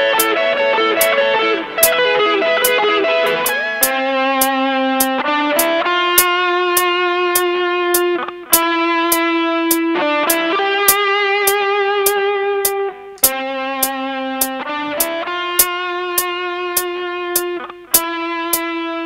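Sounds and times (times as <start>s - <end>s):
steady click track: 0.0s - 18.7s
electric guitar solo: 0.0s - 19.0s
second guitar harmony line: 0.0s - 19.0s.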